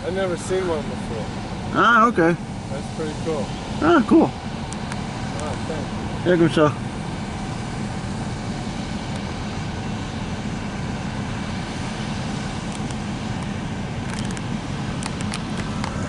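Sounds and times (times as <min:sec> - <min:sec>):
diesel engines rumbling: 0:00.0 - 0:16.0.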